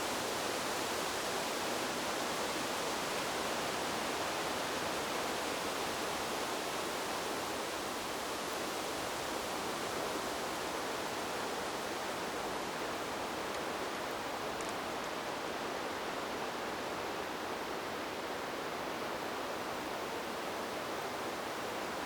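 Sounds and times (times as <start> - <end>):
wind through bamboo: 0.0 - 22.0.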